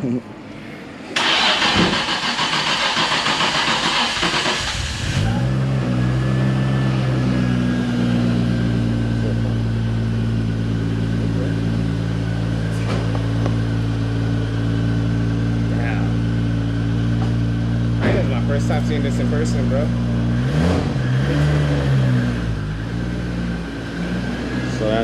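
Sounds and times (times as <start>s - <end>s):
car engine cranking and idling: 1.1s - 25.0s.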